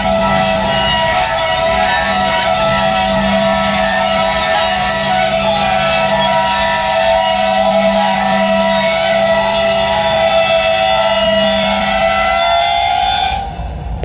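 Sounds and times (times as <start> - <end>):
train brakes squealing: 0.0 - 14.0.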